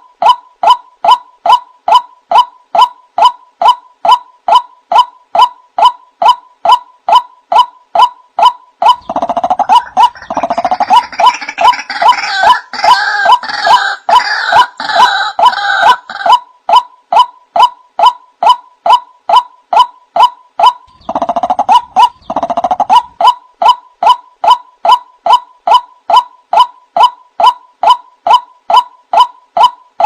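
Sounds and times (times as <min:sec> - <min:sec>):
bird calling with sharp notes: 0:00.0 - 0:30.0.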